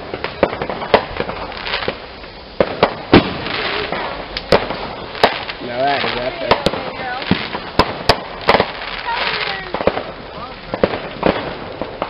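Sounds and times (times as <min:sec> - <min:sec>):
firework cracks and pops: 0:00.0 - 0:12.0
firework hissing: 0:00.0 - 0:12.0.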